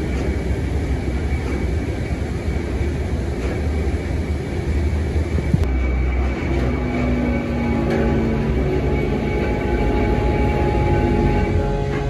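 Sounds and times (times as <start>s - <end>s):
gear drive humming: 0.0s - 12.0s
machinery low rumble: 0.0s - 12.0s.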